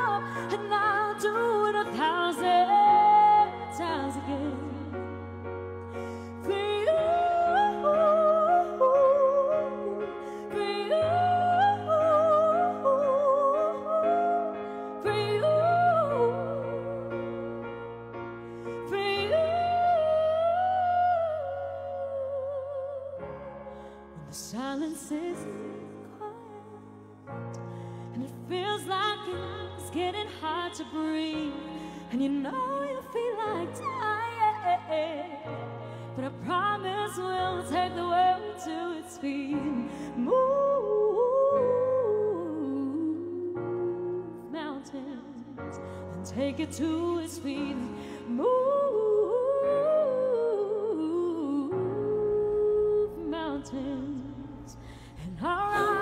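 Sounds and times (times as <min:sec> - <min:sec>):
woman singing wordless vocals: 0:00.0 - 0:05.3, 0:06.3 - 0:17.6, 0:18.8 - 0:27.0, 0:28.1 - 0:56.0.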